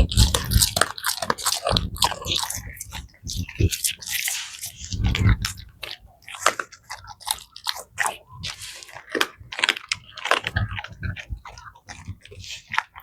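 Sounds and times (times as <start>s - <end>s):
dog chewing bones crunching: 0.0s - 13.0s.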